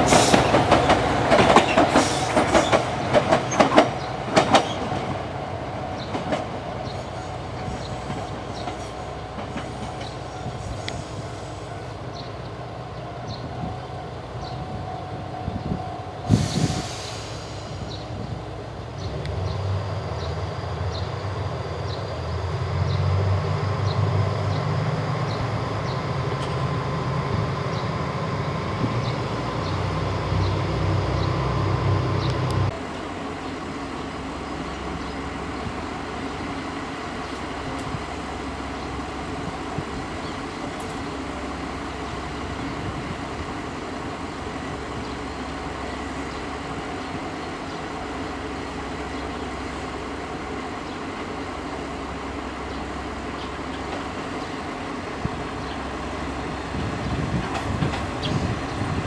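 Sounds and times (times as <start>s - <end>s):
diesel railcar engine drone: 0.0s - 59.0s.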